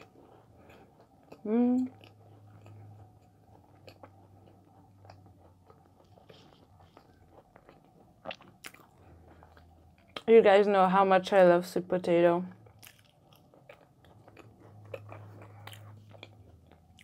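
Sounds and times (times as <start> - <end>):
close-up chewing mouth clicks: 0.0 - 10.3, 12.6 - 17.0
faint low hum: 0.0 - 17.0.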